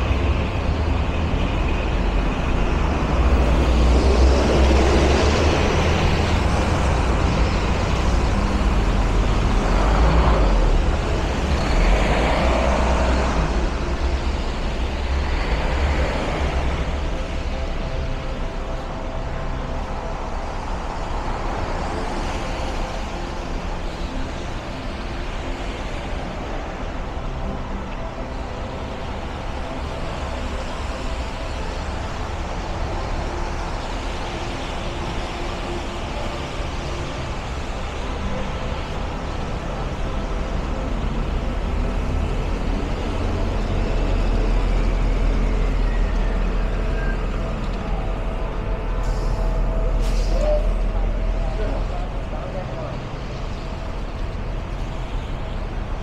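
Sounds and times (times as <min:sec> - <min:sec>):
passing cars and buses: 0:00.0 - 0:56.0.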